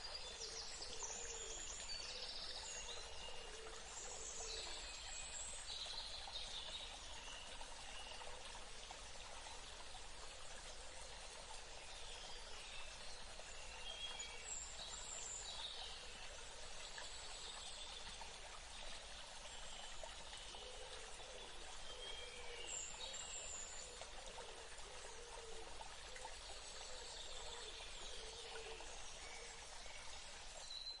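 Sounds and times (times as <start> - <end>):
running water hiss: 0.0 - 31.0.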